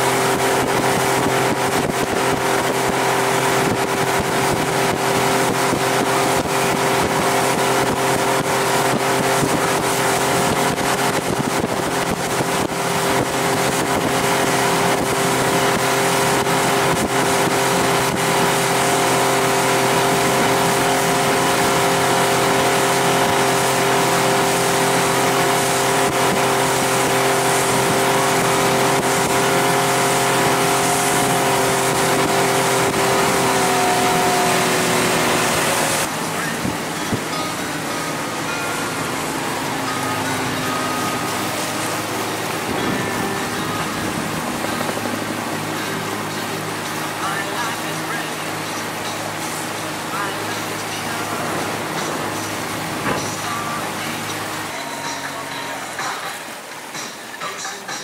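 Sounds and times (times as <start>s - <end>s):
outboard motor running: 0.0s - 58.0s
wind and water rushing: 0.0s - 58.0s.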